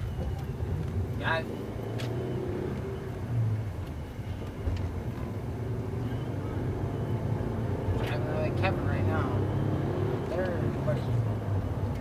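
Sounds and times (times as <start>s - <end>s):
tyre and road noise: 0.0s - 12.0s.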